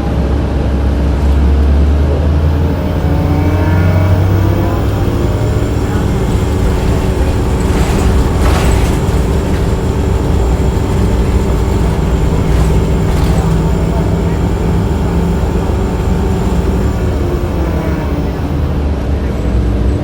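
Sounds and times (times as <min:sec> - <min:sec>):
bus engine and ventilation humming: 0:00.0 - 0:20.0
thin steady whine: 0:02.4 - 0:19.5.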